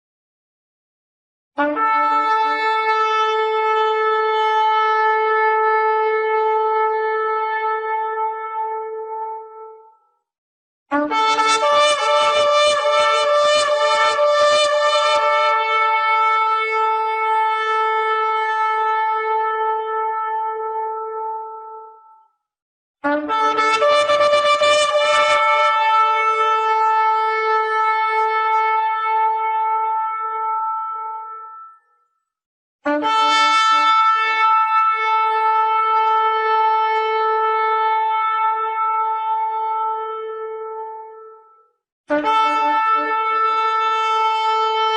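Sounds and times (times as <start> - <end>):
shofar blowing: 1.6 - 9.9, 10.9 - 22.2, 23.0 - 32.0, 32.9 - 44.9.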